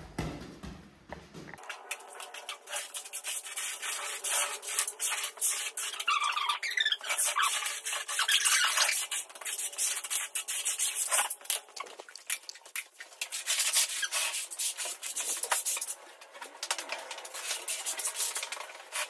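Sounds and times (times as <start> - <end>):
trowels scraping on concrete: 1.8 - 19.0.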